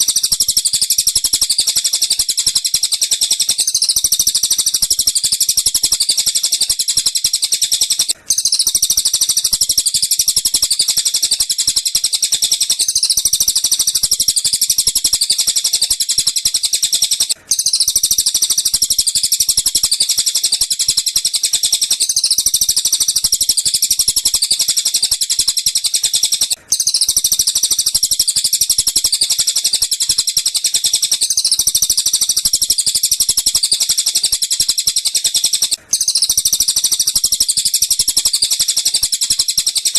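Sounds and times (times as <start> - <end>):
high-pitched songbird chirping: 0.0 - 39.9.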